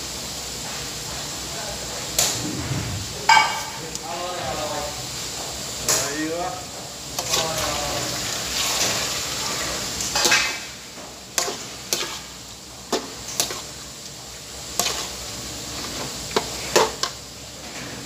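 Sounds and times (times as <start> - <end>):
cooking hiss: 0.0 - 18.0.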